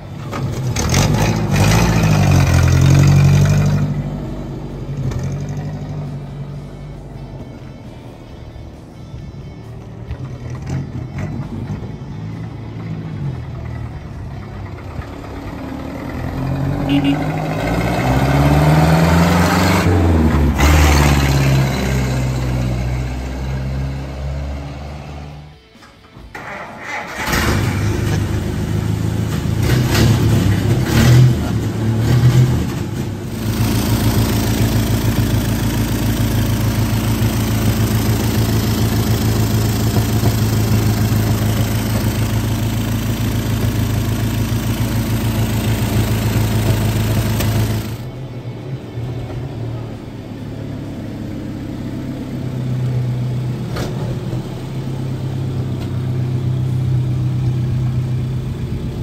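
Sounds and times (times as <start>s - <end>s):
car engine running and revving: 0.0s - 8.4s, 9.1s - 25.7s, 27.2s - 59.0s.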